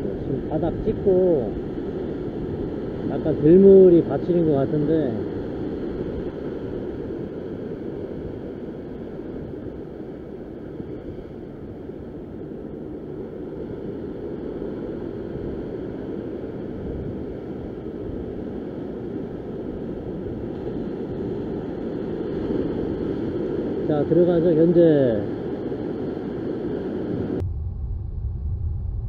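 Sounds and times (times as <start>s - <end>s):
wind on microphone: 0.0s - 29.0s.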